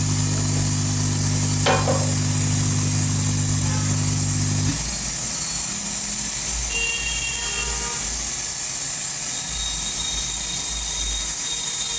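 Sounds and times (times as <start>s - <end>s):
mixing equipment hissing: 0.0s - 11.9s.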